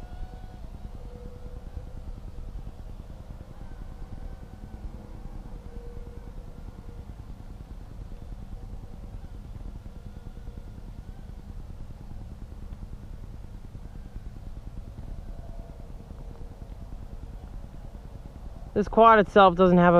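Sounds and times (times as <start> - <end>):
quadcopter motors whining: 0.0 - 19.9
wind noise on microphone: 0.0 - 19.9.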